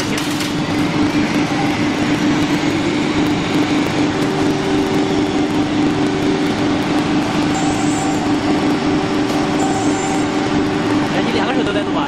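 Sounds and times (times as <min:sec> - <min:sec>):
cnc router machine hum: 0:00.0 - 0:12.0
higher steady tone: 0:01.2 - 0:12.0.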